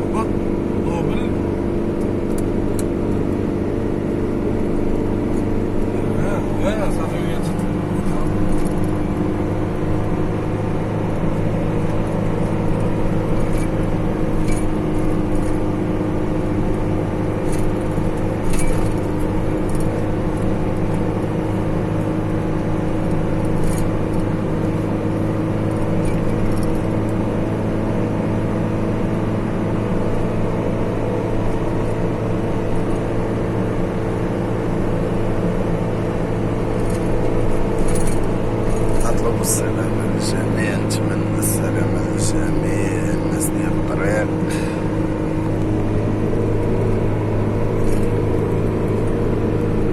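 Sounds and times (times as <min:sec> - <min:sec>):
car engine hum: 0:00.0 - 0:49.9
road noise: 0:00.0 - 0:49.9.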